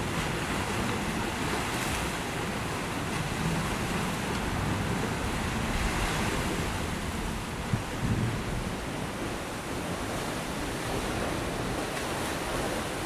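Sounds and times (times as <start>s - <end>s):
sea waves washing on shore: 0.0s - 13.0s
wind on microphone: 0.0s - 13.0s.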